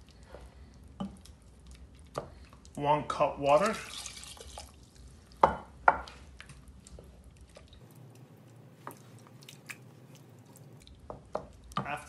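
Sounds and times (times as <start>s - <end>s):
wooden spoon stirring in saucepan: 0.0s - 2.8s, 3.5s - 12.0s.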